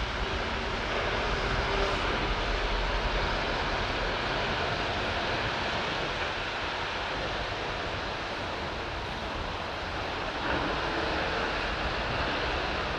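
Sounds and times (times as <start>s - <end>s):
traffic on wet street: 0.0s - 12.9s.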